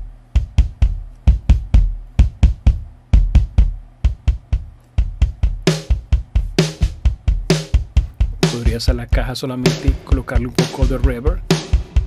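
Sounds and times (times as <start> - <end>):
rock drum loop: 0.0 - 12.0.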